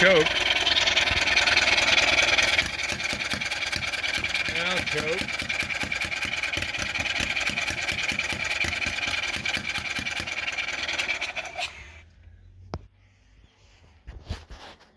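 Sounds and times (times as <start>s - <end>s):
engine cranking not catching: 0.0s - 12.1s.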